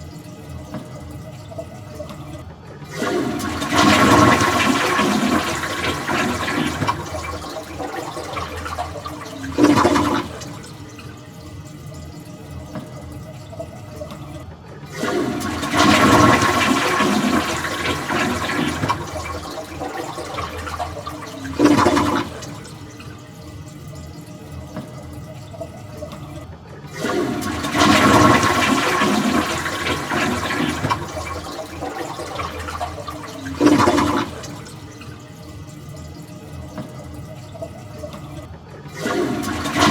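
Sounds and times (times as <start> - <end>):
toilet flushing: 0.0 - 39.9
water running steadily: 0.0 - 39.9.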